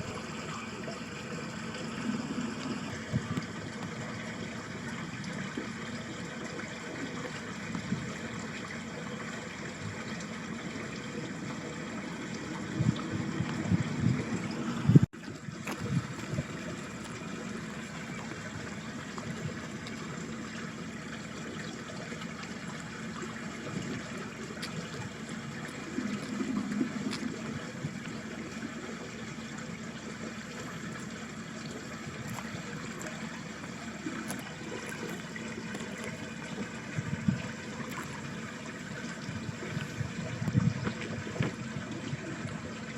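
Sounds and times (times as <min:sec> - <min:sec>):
stream trickling and gurgling: 0:00.0 - 0:42.9.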